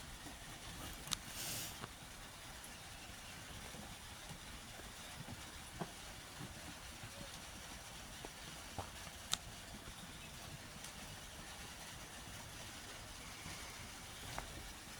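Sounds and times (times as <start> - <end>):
rain hissing on a roof: 0.0 - 14.9.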